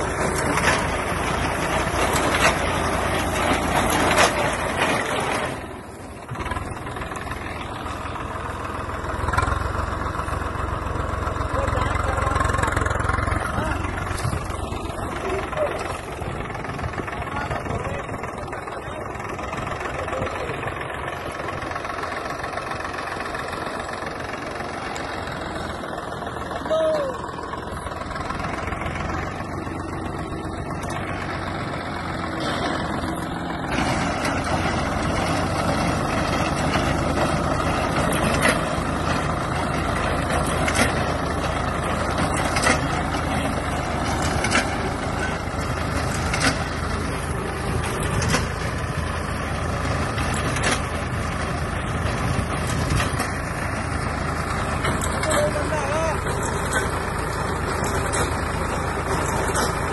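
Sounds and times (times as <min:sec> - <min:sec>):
reaper cutting crop: 0:00.0 - 0:59.9
tractor diesel engine running: 0:00.0 - 0:59.9.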